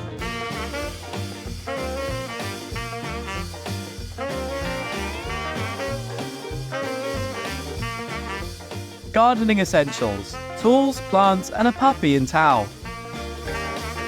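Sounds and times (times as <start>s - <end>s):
upbeat swing music: 0.0s - 14.0s.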